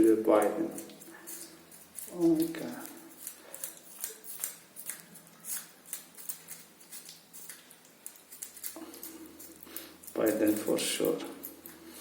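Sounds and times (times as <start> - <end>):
kitten chewing and licking: 0.0 - 12.0.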